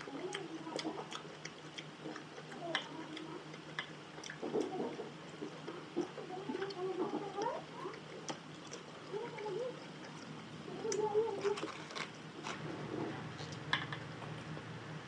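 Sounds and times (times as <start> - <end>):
chewing juicy tomato: 0.0 - 14.8.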